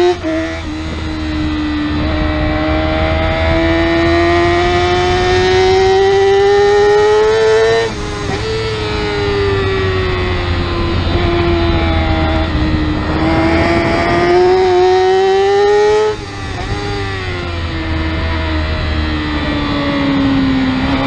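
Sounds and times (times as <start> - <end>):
motorcycle engine revving high: 0.0 - 21.0
wind rushing: 0.0 - 21.0.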